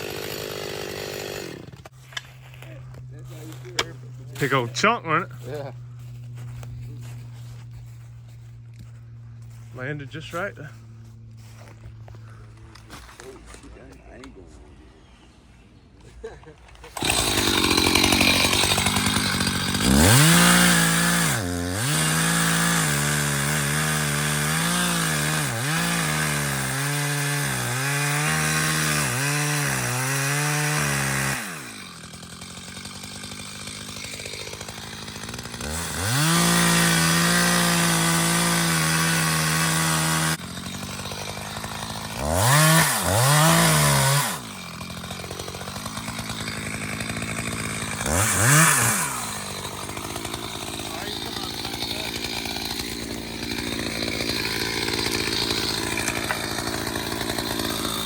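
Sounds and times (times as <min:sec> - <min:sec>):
chainsaw cutting wood: 0:00.0 - 0:13.6, 0:16.7 - 0:58.0.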